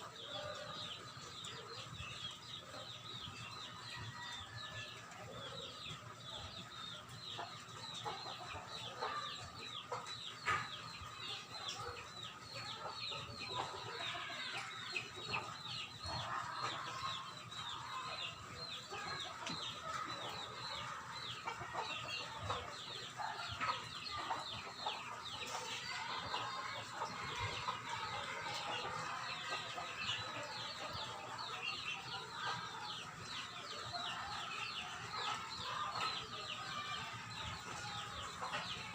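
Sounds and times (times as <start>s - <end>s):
chickens peeping: 0.0s - 38.9s.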